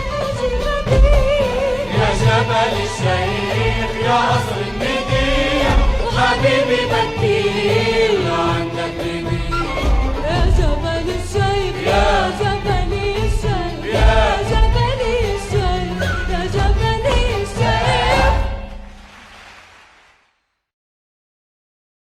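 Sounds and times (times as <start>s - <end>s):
singing over a band: 0.5s - 18.7s.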